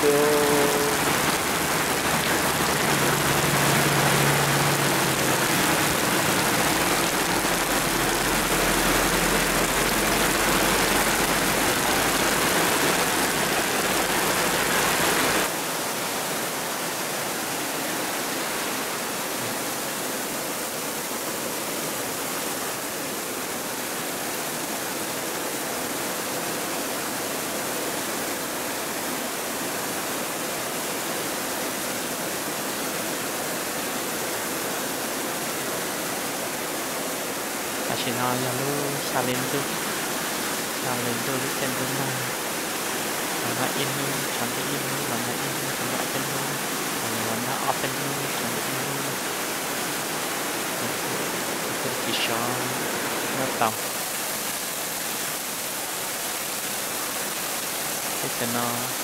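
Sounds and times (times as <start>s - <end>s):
rain on a metal roof: 0.0s - 59.0s
rain on trees and mud: 0.0s - 59.0s.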